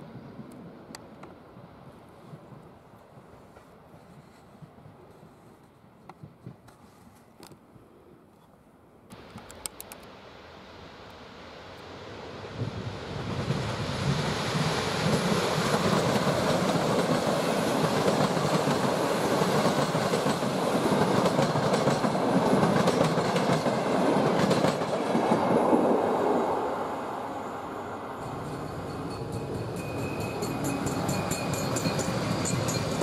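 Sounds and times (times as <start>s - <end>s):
train wheels on track: 0.0s - 7.6s, 11.1s - 33.0s.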